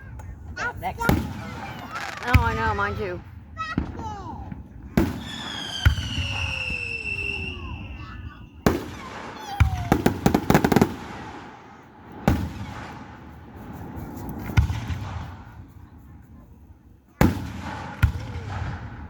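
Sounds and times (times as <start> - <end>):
fireworks heavy booms echoing: 0.0 - 16.2, 17.1 - 19.0
fireworks sharp cracks: 0.0 - 16.2, 17.1 - 19.0.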